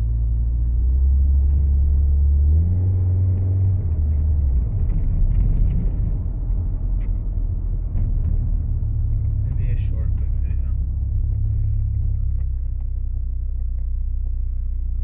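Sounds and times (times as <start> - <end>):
truck engine low drone: 0.0 - 15.0.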